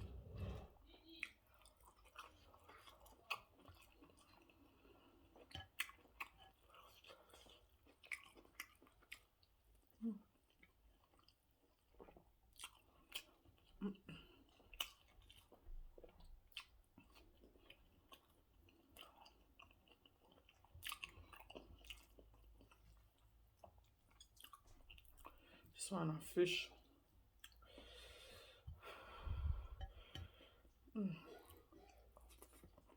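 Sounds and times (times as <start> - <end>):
person chewing and smacking: 0.0 - 25.6, 26.8 - 28.0, 28.7 - 32.9.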